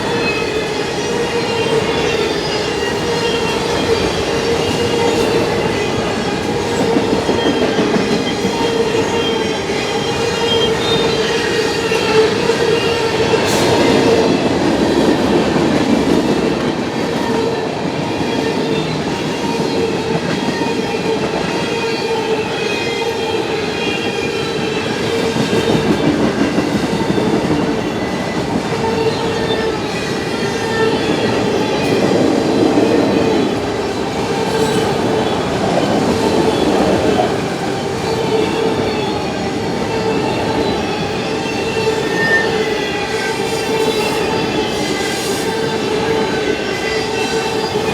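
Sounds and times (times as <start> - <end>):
freight train rolling past: 0.0 - 47.9
wheels squealing on rails: 0.0 - 47.9.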